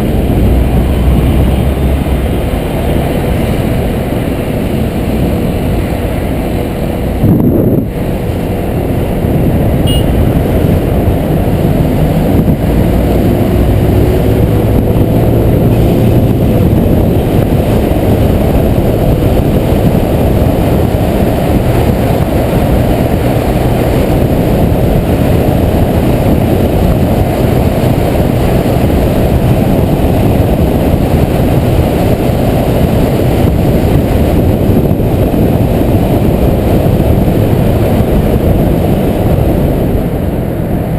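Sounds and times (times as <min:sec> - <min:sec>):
wind noise on microphone: 0:00.0 - 0:40.9.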